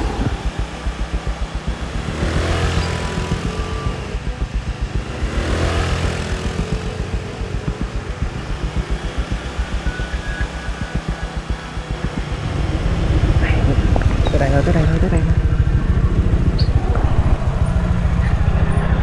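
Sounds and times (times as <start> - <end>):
motorbike engine running: 0.0 - 19.0
vehicles passing: 0.0 - 19.0.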